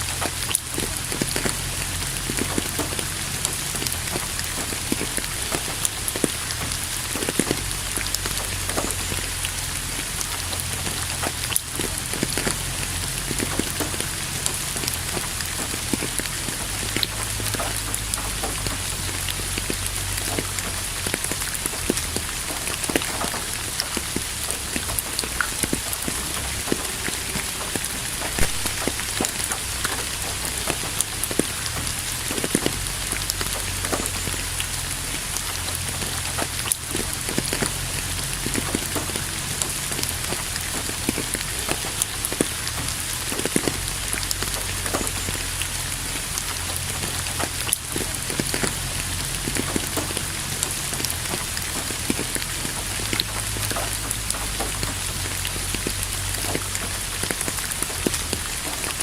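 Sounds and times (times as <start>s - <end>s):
hiss of downpour: 0.0s - 59.0s
raindrops ticking on surface: 0.0s - 59.0s.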